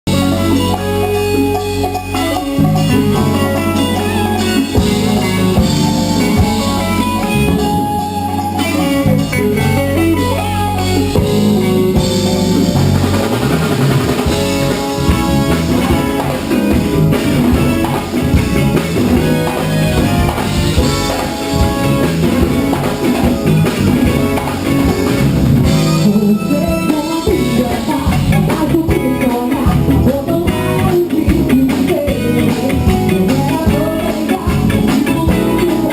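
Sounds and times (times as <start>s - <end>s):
drum kit playing: 0.1s - 35.9s
electric guitar playing: 0.1s - 35.9s.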